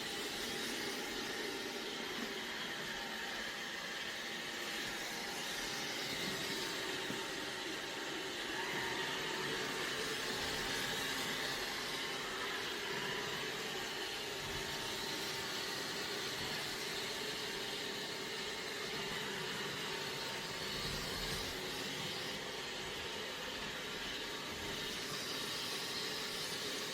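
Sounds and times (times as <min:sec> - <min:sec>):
robot vacuum whirring: 0:00.0 - 0:26.9.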